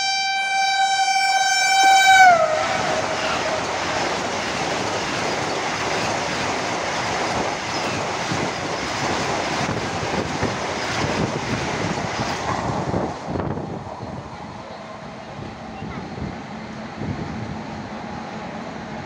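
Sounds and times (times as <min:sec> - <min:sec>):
train passing at high speed: 0:00.0 - 0:19.0.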